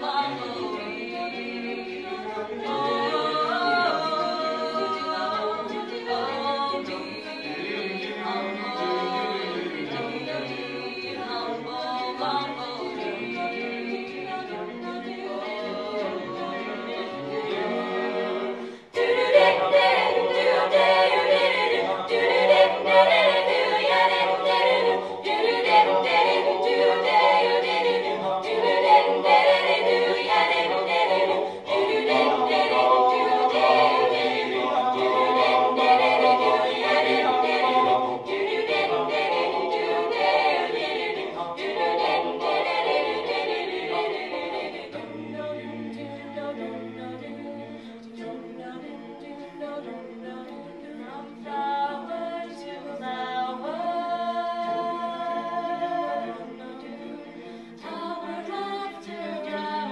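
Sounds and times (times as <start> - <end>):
a cappella choir singing: 0.0 - 59.9.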